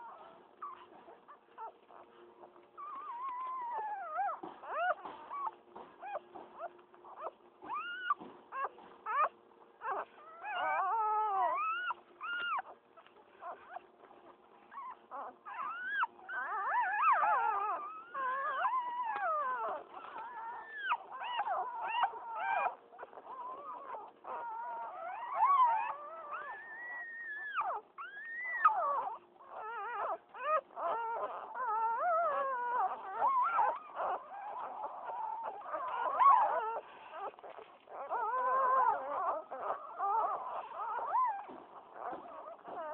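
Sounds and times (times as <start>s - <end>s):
puppies squealing and whimpering: 0.0s - 42.9s.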